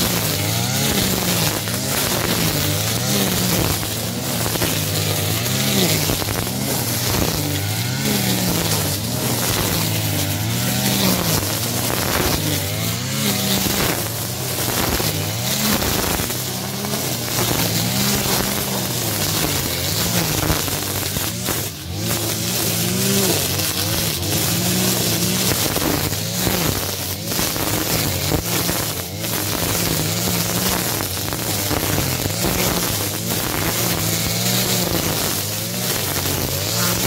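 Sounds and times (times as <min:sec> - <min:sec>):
brush cutter engine revving: 0:00.0 - 0:37.0.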